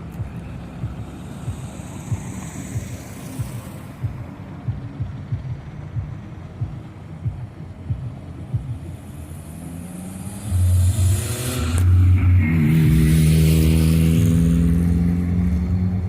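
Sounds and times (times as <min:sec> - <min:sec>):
diesel truck engine idling and revving: 0:00.0 - 0:16.0.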